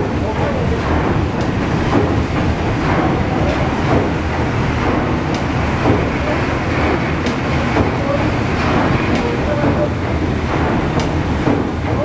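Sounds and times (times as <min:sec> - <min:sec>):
steam engine mechanical churning: 0:00.0 - 0:12.0.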